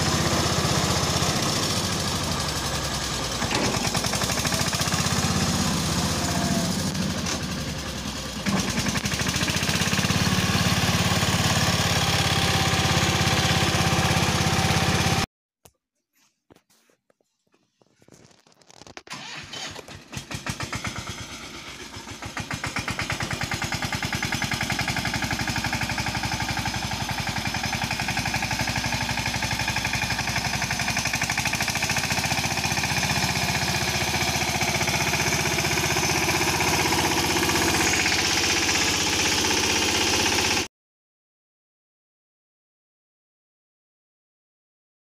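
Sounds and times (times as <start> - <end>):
tractor diesel engine chugging: 0.0 - 15.2, 19.1 - 40.7.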